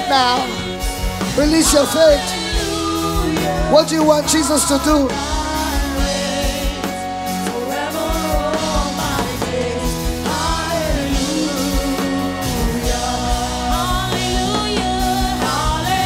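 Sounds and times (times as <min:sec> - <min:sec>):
drum beat thumping: 0:00.0 - 0:16.0
gospel voices singing: 0:00.0 - 0:16.0.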